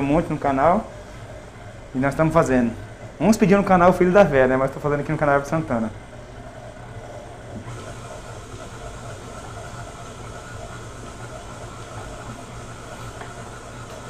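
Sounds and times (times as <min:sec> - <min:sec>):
stand mixer motor hum: 0:00.0 - 0:14.0.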